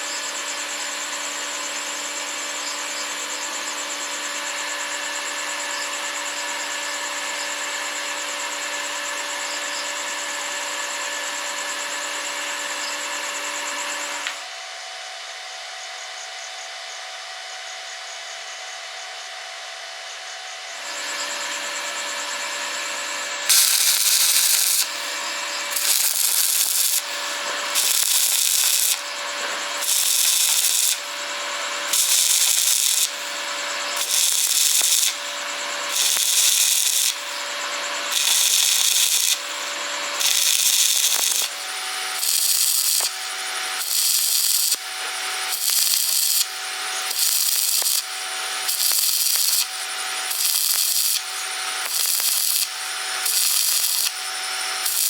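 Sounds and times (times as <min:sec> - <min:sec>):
power tool motor running: 0:00.0 - 0:55.0.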